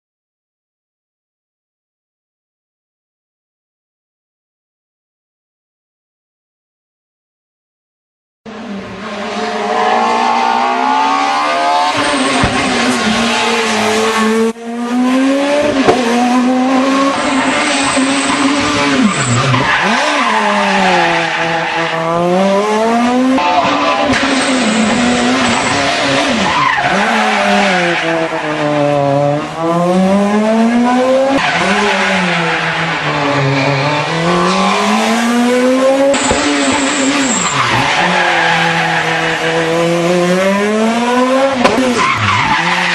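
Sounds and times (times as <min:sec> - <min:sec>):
rally car engine revving: 0:08.5 - 0:42.9.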